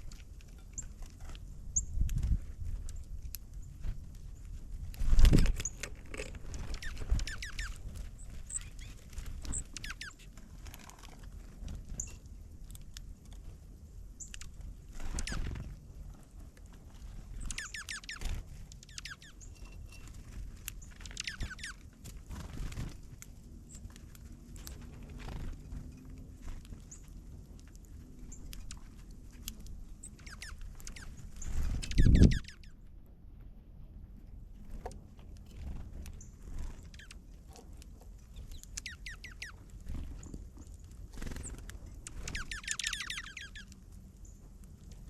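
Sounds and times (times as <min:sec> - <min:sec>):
small songbirds chirping: 0:00.0 - 0:04.6, 0:05.4 - 0:15.9, 0:17.1 - 0:21.9, 0:23.6 - 0:32.8, 0:36.0 - 0:44.9.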